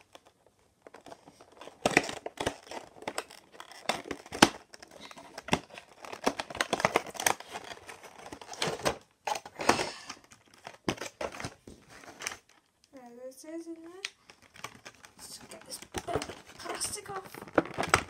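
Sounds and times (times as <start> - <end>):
plastic tray crinkling and scraping: 0.0 - 12.6, 13.7 - 18.0.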